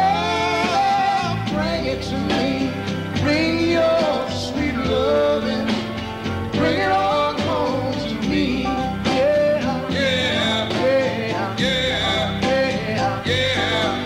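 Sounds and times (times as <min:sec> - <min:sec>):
country song on radio: 0:00.0 - 0:14.0.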